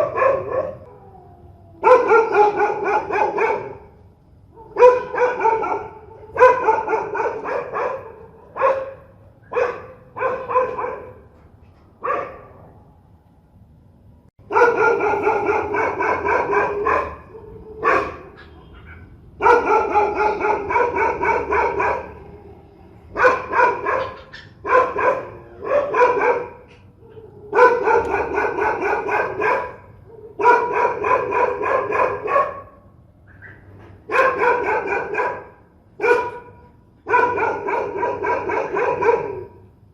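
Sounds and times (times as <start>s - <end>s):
dogs barking: 0.0s - 1.1s, 1.8s - 11.3s, 12.0s - 12.8s, 14.4s - 39.8s.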